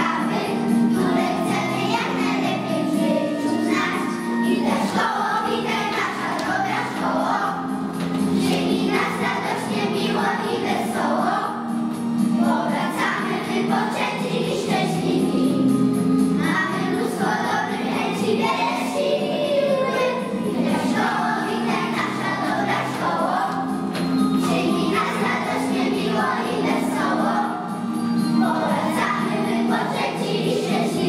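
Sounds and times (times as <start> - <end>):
children singing in unison: 0.0 - 11.8, 12.4 - 15.8, 16.4 - 31.0
recorded musical backing track: 0.0 - 31.0.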